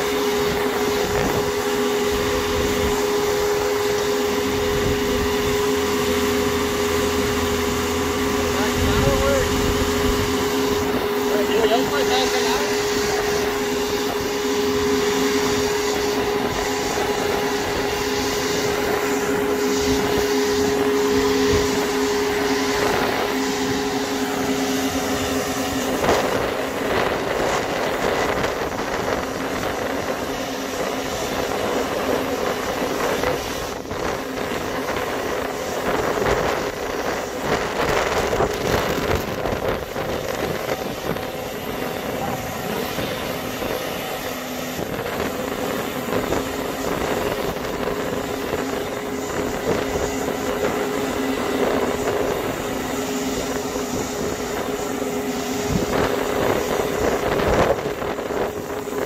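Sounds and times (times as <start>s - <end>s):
lift engine humming whine: 0.0s - 59.0s
rough rushing mechanical noise: 0.0s - 59.0s.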